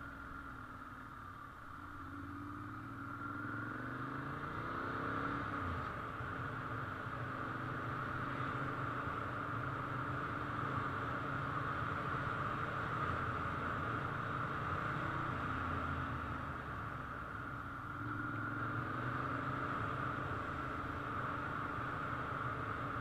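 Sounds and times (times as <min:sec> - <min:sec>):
motorcycle engines running: 0:00.0 - 0:23.0.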